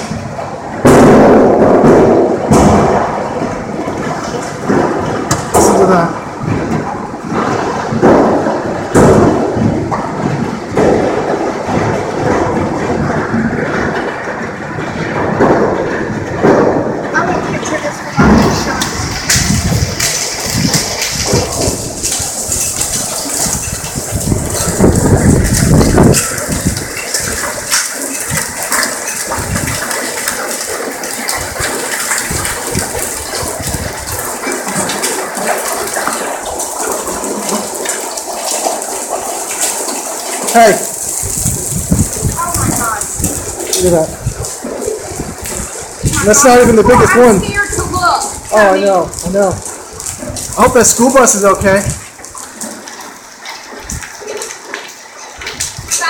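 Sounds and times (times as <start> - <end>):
hailstones pelting concrete: 0.0 - 56.0.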